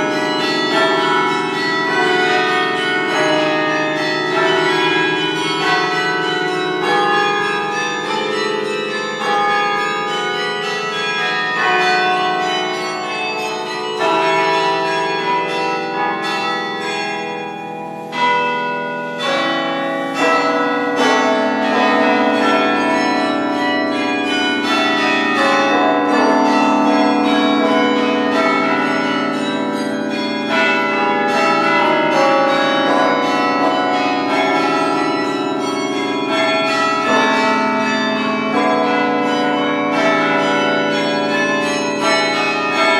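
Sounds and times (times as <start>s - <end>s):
carillon bells playing: 0.0s - 42.9s.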